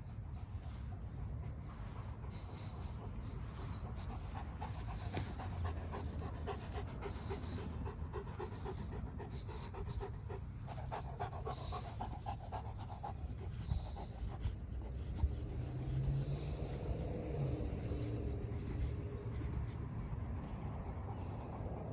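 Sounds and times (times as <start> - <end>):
dog panting: 0.0 - 21.9.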